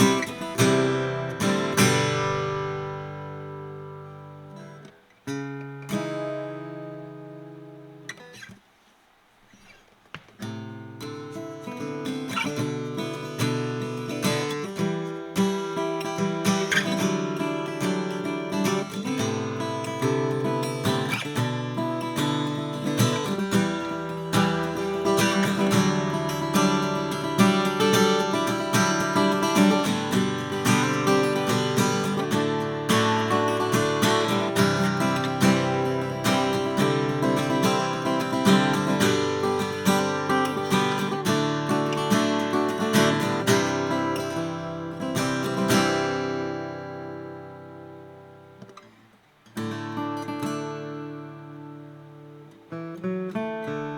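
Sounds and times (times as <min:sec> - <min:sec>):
acoustic guitar strumming and picking: 0:00.0 - 0:53.9.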